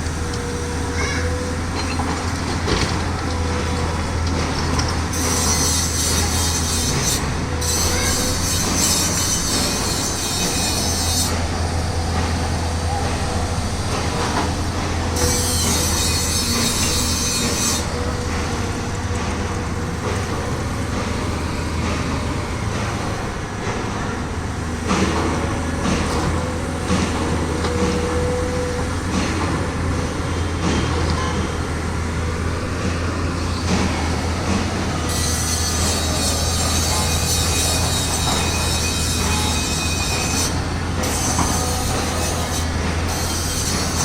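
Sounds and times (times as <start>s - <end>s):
heavy machinery droning: 0.0s - 44.0s.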